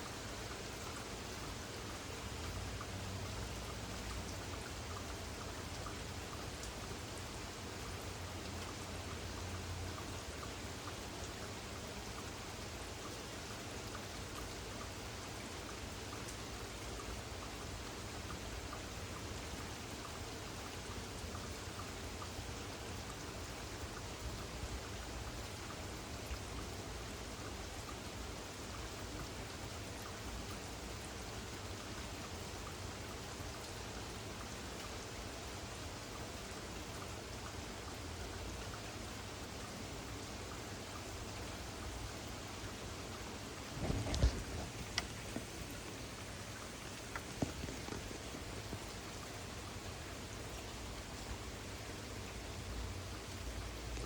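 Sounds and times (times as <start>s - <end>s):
raindrops ticking: 0.0s - 54.0s
steady rain hissing: 0.0s - 54.0s.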